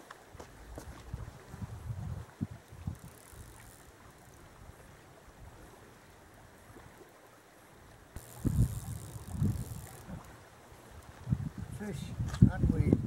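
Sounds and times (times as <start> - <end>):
river water running: 0.0 - 12.4.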